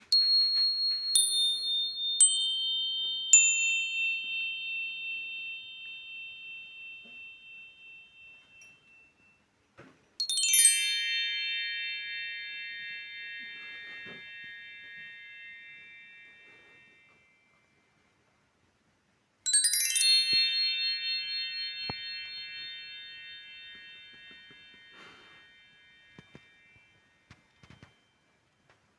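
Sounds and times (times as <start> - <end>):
bright chime tones: 0.0 - 18.1, 19.5 - 28.9.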